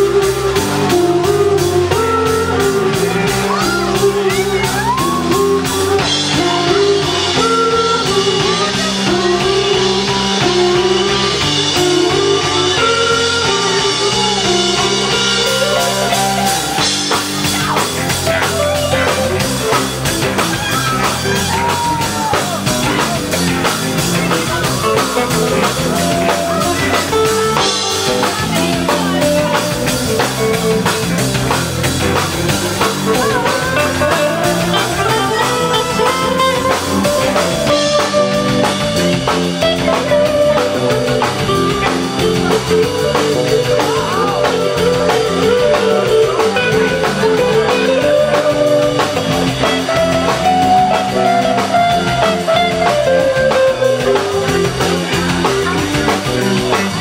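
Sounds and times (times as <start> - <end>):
drum kit: 0.0 - 57.0
electric guitar line: 0.0 - 57.0
live rock band playing: 0.0 - 57.0.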